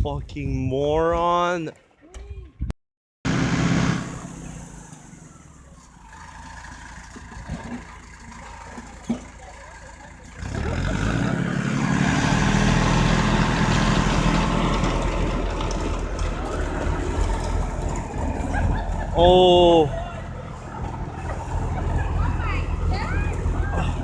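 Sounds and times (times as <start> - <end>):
vehicle engine running: 3.3 - 24.0.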